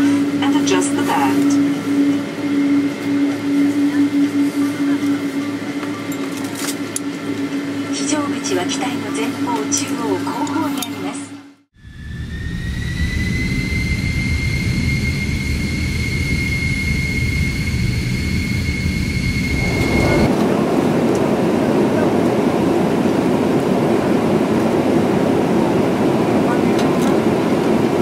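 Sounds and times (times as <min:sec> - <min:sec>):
high engine whine: 0:00.0 - 0:28.0
jet engine rush in cabin: 0:00.0 - 0:28.0.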